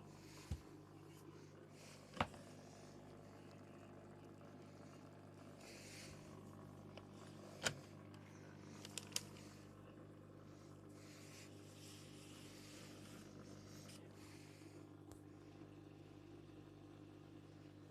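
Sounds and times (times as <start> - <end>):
washing machine humming: 0.0 - 17.9.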